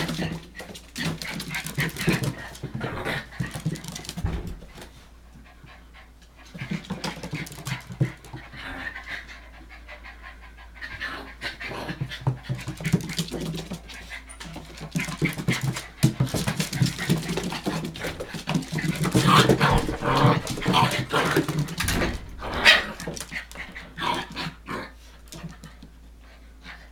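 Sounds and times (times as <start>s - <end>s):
puppies panting: 0.0s - 26.9s.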